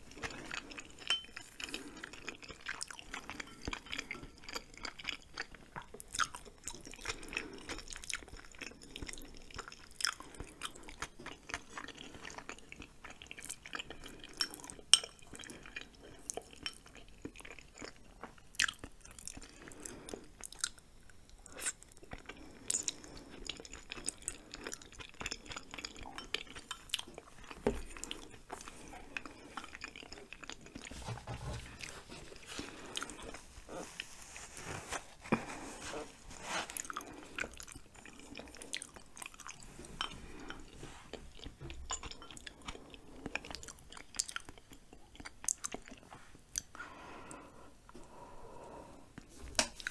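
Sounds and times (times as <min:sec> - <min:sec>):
chewing with wet mouth smacks: 0:00.1 - 0:31.0, 0:36.8 - 0:46.8.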